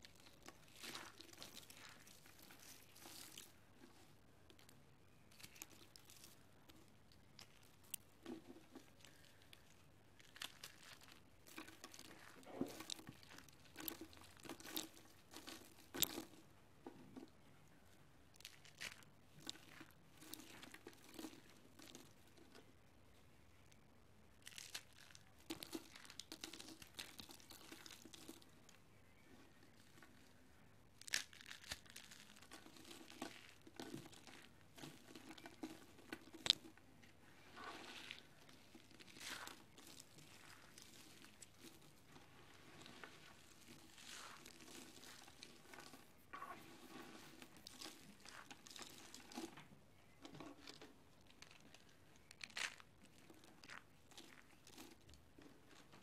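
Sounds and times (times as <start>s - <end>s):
soap slivers crunching and crackling: 0.0s - 16.5s, 18.3s - 22.7s, 23.5s - 56.0s.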